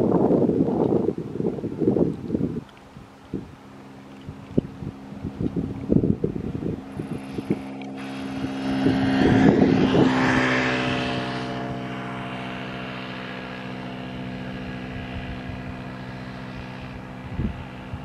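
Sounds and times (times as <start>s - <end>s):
wind buffeting microphone: 0.0s - 18.0s
jet engines droning: 3.1s - 18.0s.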